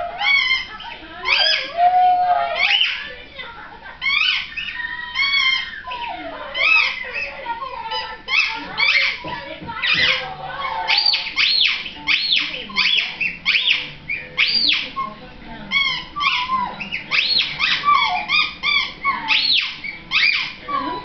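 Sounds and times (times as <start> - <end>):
small dog whining: 0.0 - 3.0, 4.0 - 21.0.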